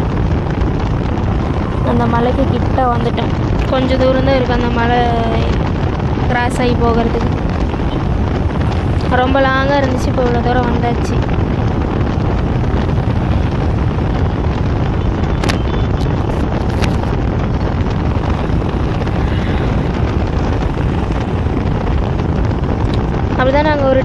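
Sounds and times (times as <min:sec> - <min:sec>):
wind buffeting microphone: 0:00.0 - 0:24.0
wind rush and road noise: 0:00.0 - 0:24.0.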